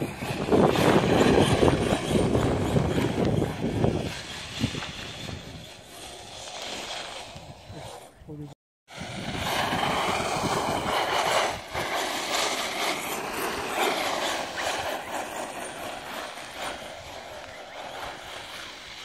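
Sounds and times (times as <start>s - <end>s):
electric motor whine: 0.0s - 8.3s, 8.9s - 19.0s
wind rumbling on microphone: 0.0s - 19.0s.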